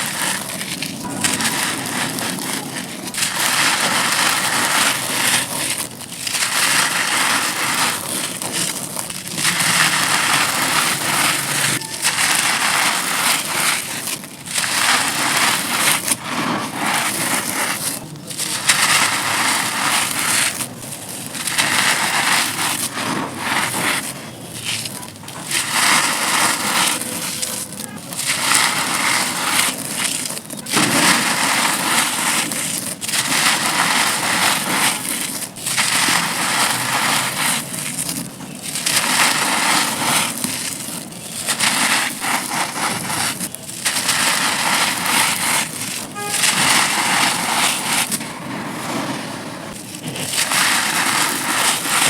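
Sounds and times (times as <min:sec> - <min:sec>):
dirt cookies crunching: 0:00.0 - 0:52.0.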